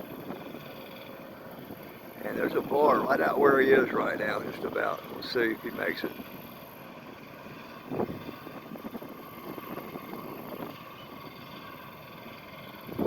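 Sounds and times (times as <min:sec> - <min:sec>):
distant boat engine drone: 0:00.0 - 0:13.0.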